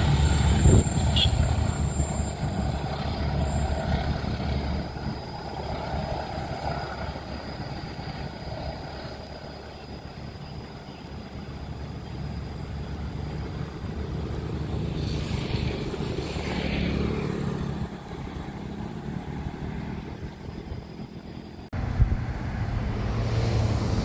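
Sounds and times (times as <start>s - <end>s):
diesel train engine: 0.0s - 24.0s
low engine hum: 2.8s - 24.0s.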